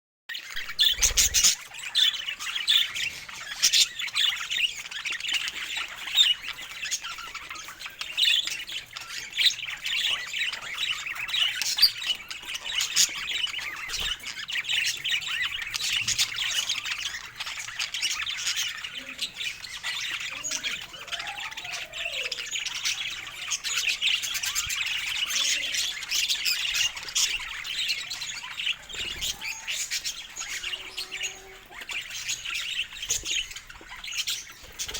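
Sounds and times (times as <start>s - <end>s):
budgerigars chattering and chirping: 0.3s - 34.9s.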